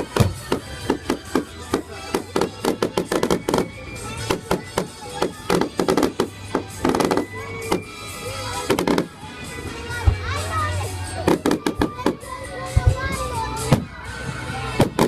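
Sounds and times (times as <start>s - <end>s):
fireworks bangs and crackles: 0.0s - 10.3s, 11.1s - 15.0s.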